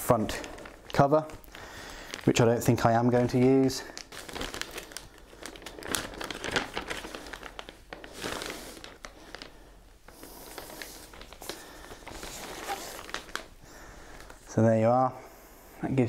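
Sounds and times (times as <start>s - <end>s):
plastic film crinkling: 0.0s - 14.6s.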